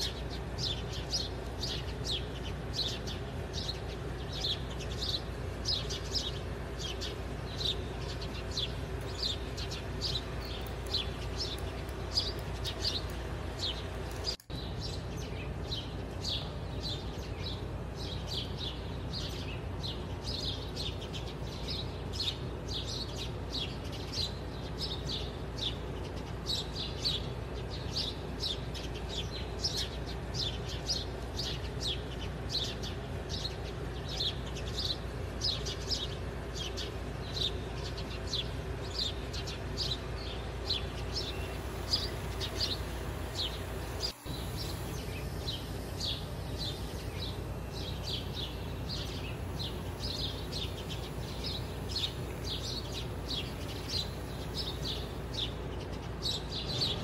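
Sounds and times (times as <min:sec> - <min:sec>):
faint steady hum: 0:00.0 - 0:57.0
small birds chirping: 0:00.0 - 0:57.0.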